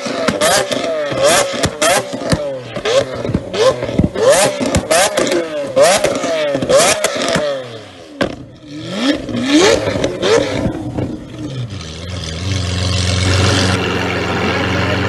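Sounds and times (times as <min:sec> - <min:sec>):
car engine idling: 0:00.0 - 0:15.0
car engine revving: 0:00.0 - 0:15.0
exhaust pops and crackles: 0:00.0 - 0:15.0.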